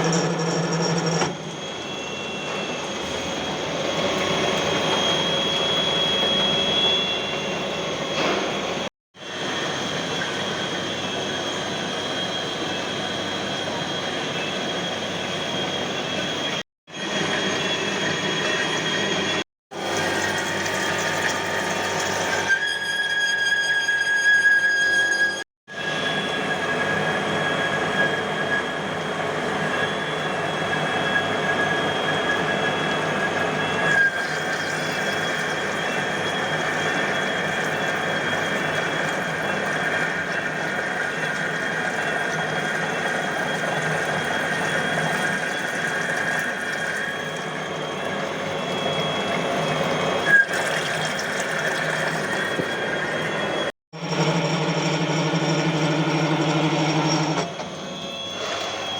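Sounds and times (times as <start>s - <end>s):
lathe cutting metal whine: 0.0s - 58.9s.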